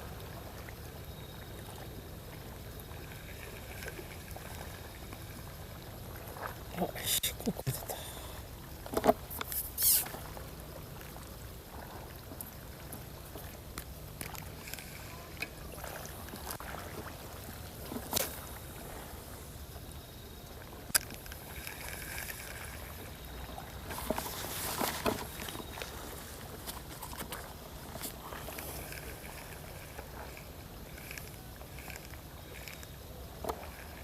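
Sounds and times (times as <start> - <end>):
water lapping at shoreline: 0.0 - 34.0.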